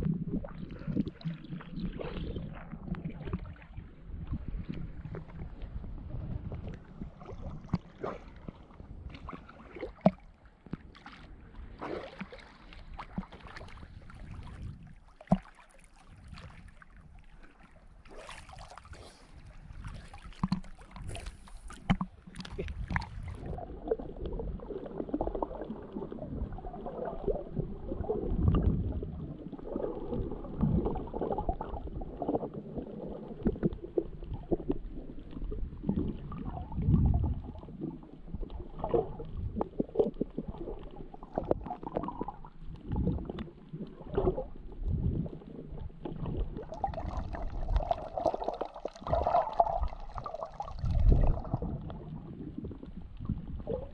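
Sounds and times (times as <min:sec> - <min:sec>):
low underwater rumble: 0:00.0 - 0:53.9
underwater gurgling and sloshing: 0:00.0 - 0:53.9
water splashing: 0:06.5 - 0:53.9.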